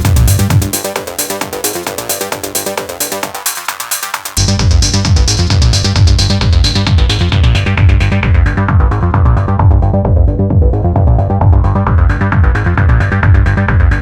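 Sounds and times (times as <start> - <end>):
electronic trance music: 0.0 - 14.0.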